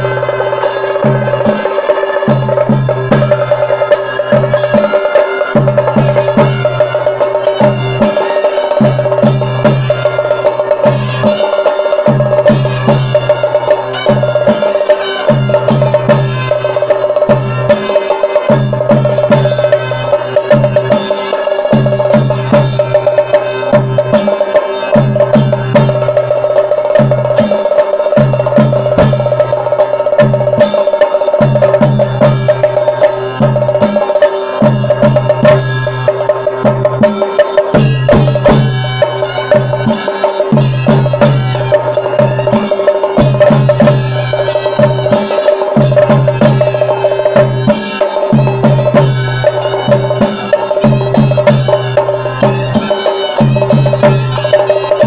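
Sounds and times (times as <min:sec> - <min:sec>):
drums beaten with sticks: 0:00.0 - 0:55.0.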